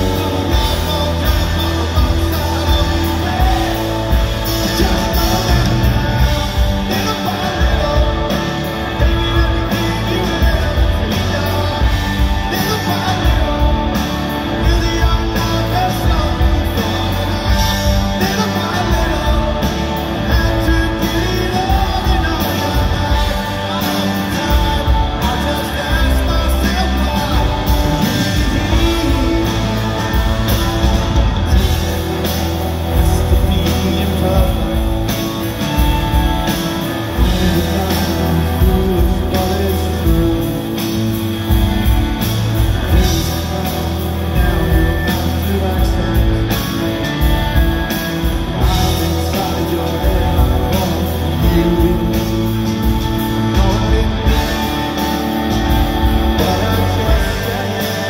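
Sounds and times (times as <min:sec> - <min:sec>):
man singing: 0:00.0 - 0:58.0
rock band playing: 0:00.0 - 0:58.0.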